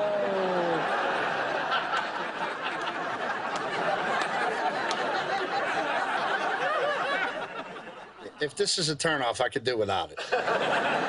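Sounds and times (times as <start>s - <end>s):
studio audience laughing: 0.3s - 8.6s, 10.2s - 11.0s.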